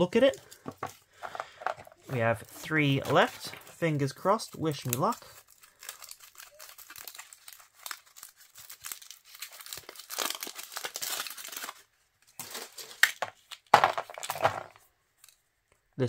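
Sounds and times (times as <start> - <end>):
foil wrapper crinkling and tearing: 1.4 - 14.4.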